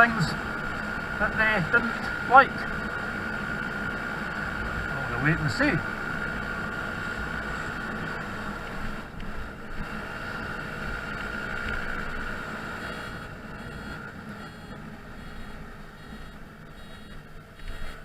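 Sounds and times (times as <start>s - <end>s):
road noise: 0.0s - 18.0s
scooter engine running: 0.0s - 18.0s
steady high whine: 0.0s - 18.0s.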